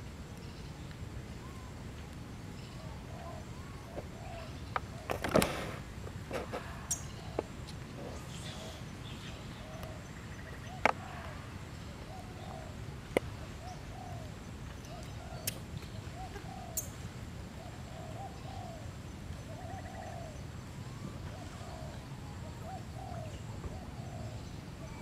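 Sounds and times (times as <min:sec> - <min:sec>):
soft cooing calls: 0:02.6 - 0:25.0.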